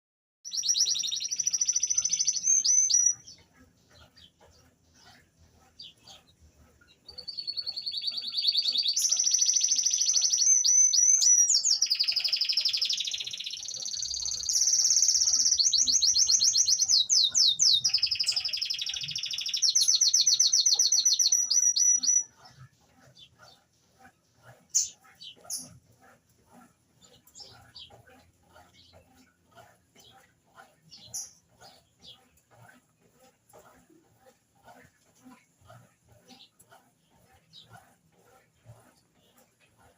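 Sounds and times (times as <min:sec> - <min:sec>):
canary singing trills: 0:00.5 - 0:35.0, 0:35.7 - 0:39.9.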